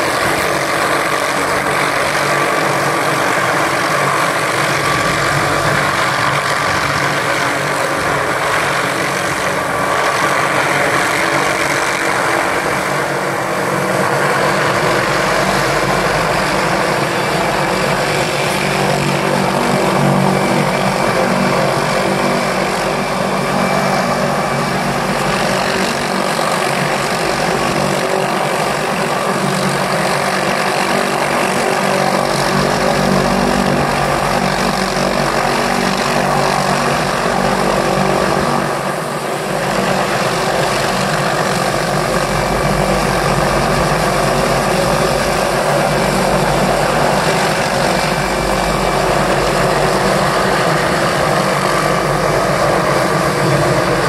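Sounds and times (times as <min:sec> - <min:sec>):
helicopter hovering: 0:00.0 - 0:54.0.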